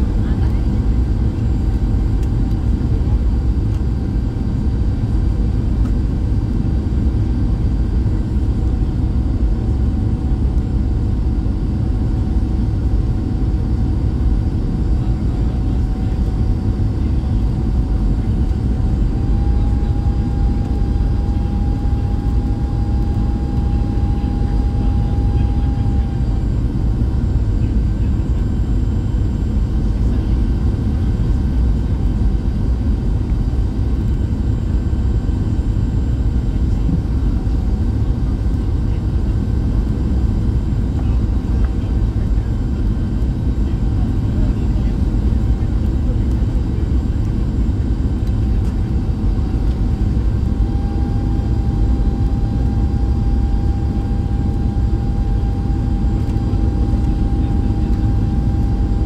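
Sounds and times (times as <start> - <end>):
aircraft cabin engine and airflow roar: 0.0 - 59.0.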